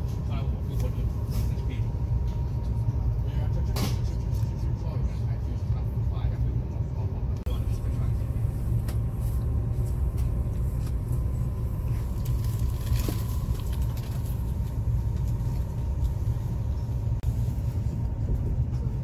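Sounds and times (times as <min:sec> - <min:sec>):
faint steady whine: 0:00.0 - 0:19.0
train cabin low rumble: 0:00.0 - 0:19.0.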